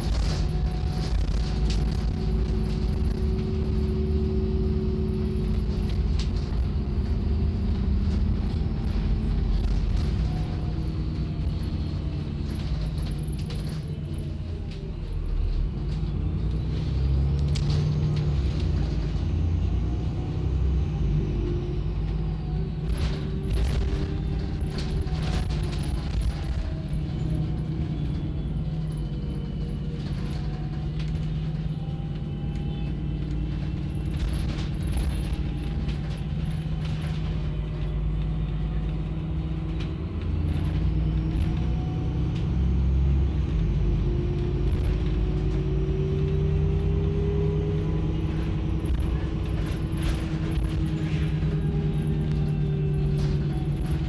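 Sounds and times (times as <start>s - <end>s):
bus body rattles: 0.0s - 54.0s
bus diesel engine running: 0.0s - 54.0s.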